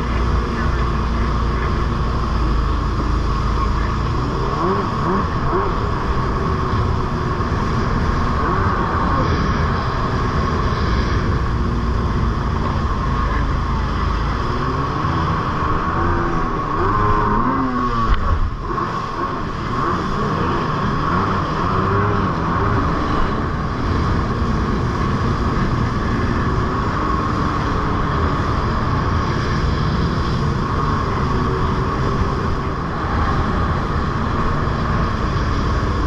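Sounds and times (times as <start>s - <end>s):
jet ski engine running: 0.0s - 36.0s.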